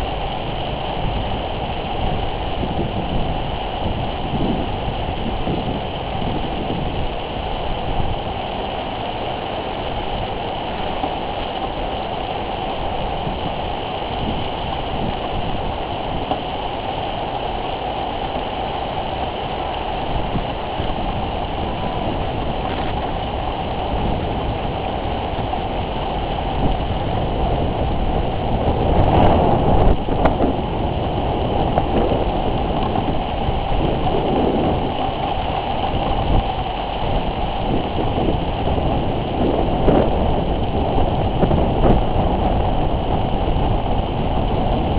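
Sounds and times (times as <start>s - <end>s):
wind buffeting microphone: 0.0s - 8.8s, 9.8s - 17.6s, 18.2s - 44.9s
rain: 0.0s - 44.9s.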